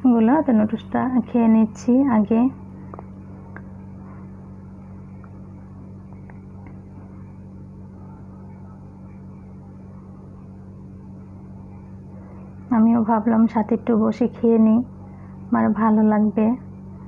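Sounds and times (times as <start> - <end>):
electric fan motor humming: 0.0 - 17.0.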